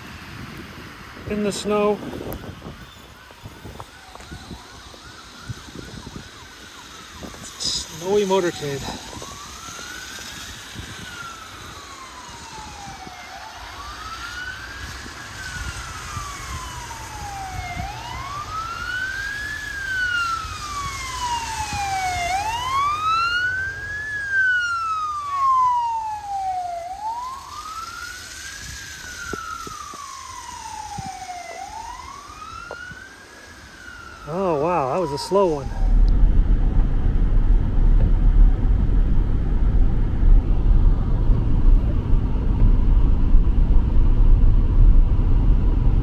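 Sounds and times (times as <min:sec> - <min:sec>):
fainter higher siren wailing: 0:00.0 - 0:45.9
low rumble of vehicles: 0:00.0 - 0:46.0
siren wailing: 0:01.2 - 0:45.9.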